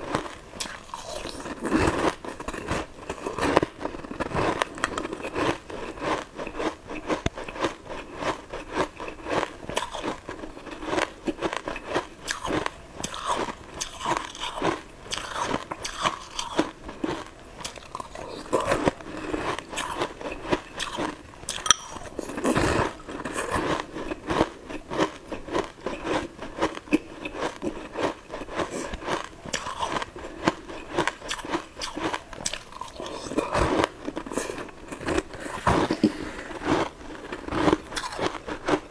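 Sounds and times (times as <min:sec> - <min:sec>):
person crunching and chewing: 0:00.0 - 0:38.9.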